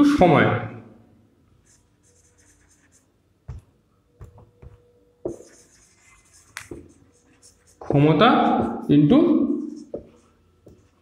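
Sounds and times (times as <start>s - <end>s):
marker squeaking on whiteboard: 1.6s - 11.0s.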